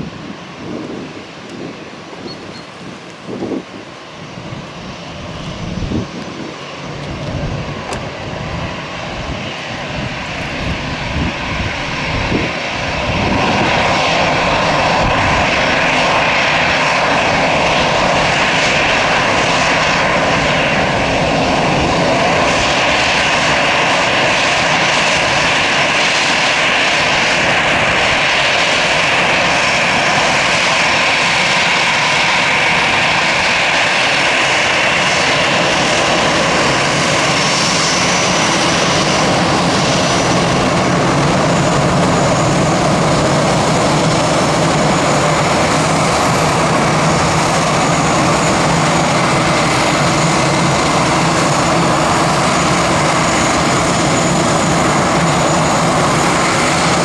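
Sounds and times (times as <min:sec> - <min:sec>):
jet engines whining: 0:00.0 - 0:57.0.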